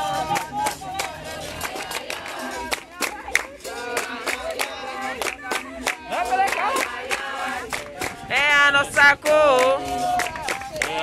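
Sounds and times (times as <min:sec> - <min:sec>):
handclaps: 0:00.0 - 0:08.4, 0:09.2 - 0:11.0
voices singing: 0:00.0 - 0:11.0.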